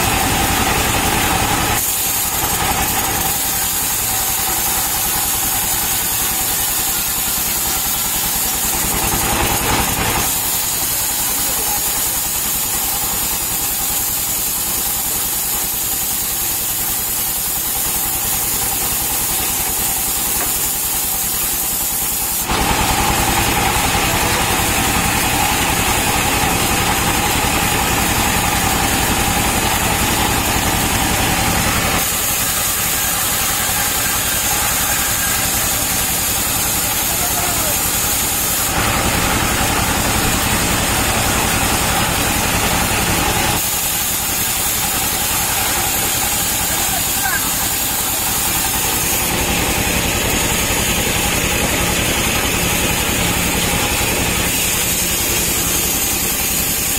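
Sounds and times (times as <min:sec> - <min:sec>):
diesel engine running steadily: 0:00.0 - 0:56.9
saw blade cutting wood: 0:00.0 - 0:56.9.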